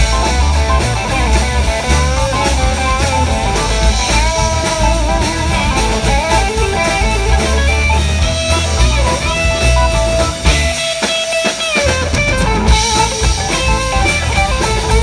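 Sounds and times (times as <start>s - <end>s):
bass and drums: 0.0s - 15.0s
blues rock guitar lead: 0.0s - 15.0s.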